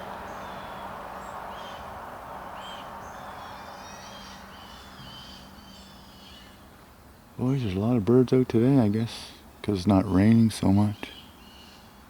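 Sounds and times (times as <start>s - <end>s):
bird twittering trill: 0.0s - 8.0s, 9.4s - 12.0s
background hiss: 0.0s - 12.0s
small songbirds chirping: 0.0s - 12.0s.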